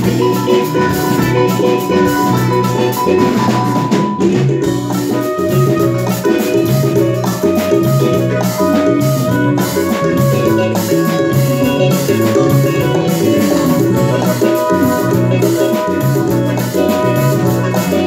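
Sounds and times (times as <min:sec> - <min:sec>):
drum kit: 0:00.0 - 0:18.0
electronic percussion pads: 0:00.0 - 0:18.0
sustained melodic line: 0:00.0 - 0:18.0.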